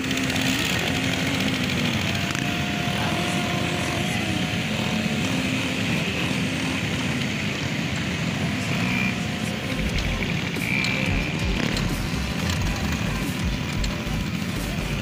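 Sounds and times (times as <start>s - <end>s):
quad bike engines buzzing: 0.0s - 15.0s.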